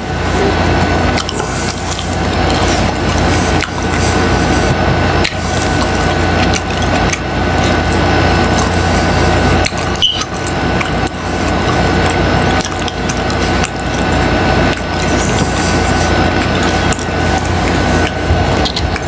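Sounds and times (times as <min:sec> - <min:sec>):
chewing crunchy food: 0:00.0 - 0:19.0.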